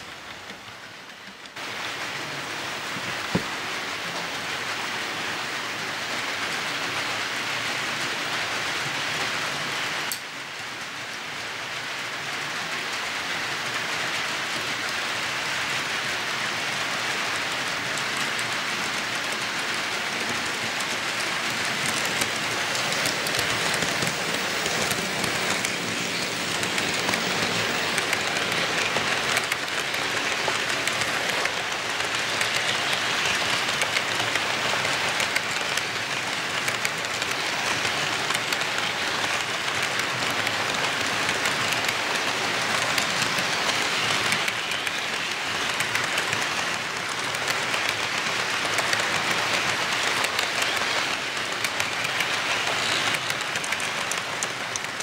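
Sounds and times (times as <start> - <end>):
model train wheels and motors hissing: 0.0 - 55.0.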